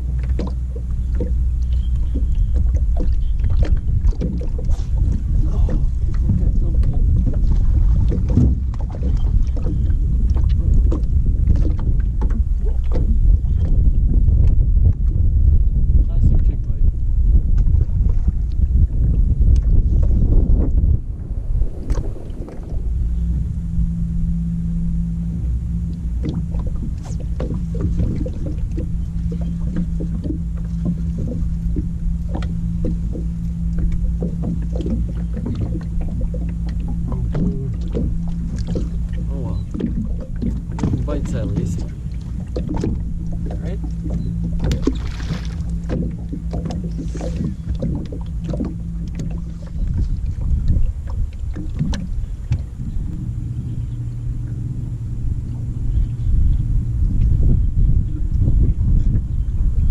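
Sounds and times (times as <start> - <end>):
boat low rumble: 0.0 - 59.9
water lapping against hull: 0.0 - 59.9.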